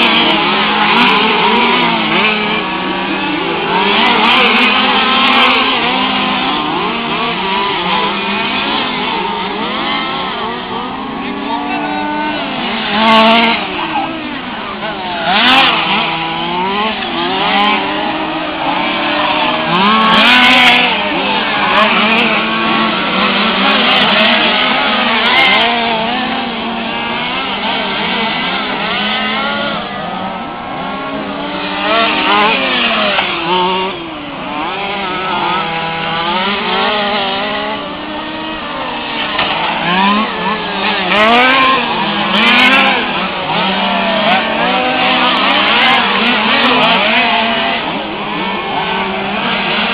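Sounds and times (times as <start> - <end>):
small two-stroke engines racing: 0.0 - 49.9.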